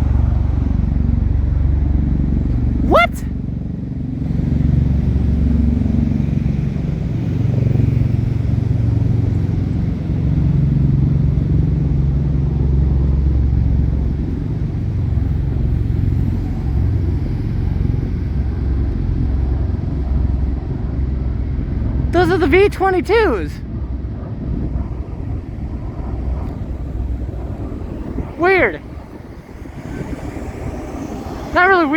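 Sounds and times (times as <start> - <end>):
aircraft rotor droning rumble: 0.0 - 31.9.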